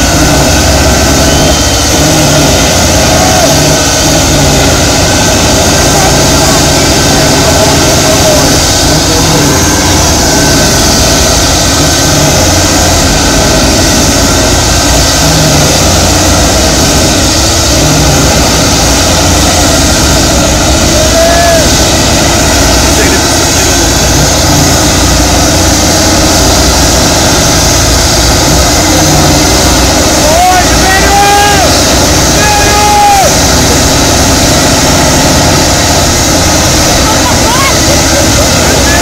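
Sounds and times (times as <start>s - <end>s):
heavy diesel engines under load: 0.0s - 39.0s.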